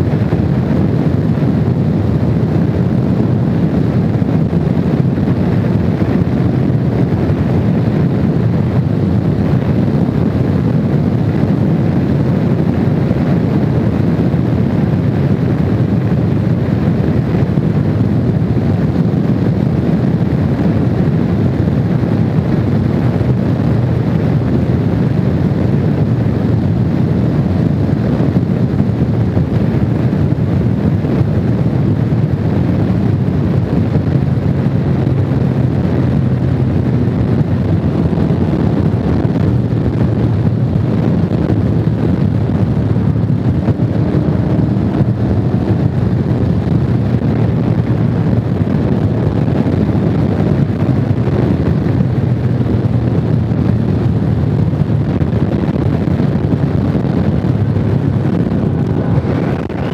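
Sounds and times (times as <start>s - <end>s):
motorcycle road noise at speed: 0.0s - 59.9s
wind buffeting microphone: 0.0s - 59.9s.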